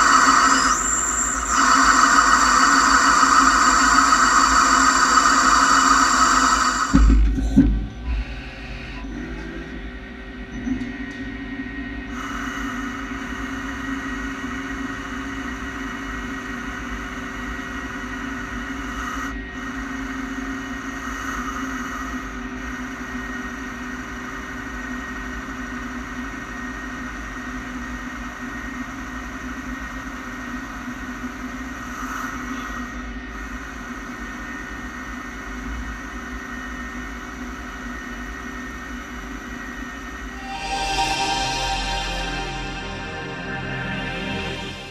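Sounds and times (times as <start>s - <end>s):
lathe cutting metal hum and whine: 0.0s - 32.0s, 32.6s - 44.9s.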